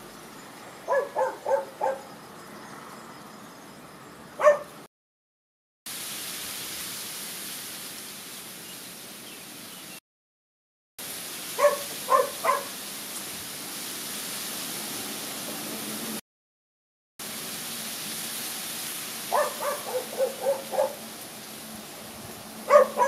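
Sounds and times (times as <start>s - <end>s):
steady outdoor hiss: 0.0s - 4.8s, 5.9s - 10.0s, 11.0s - 16.2s, 17.2s - 23.0s.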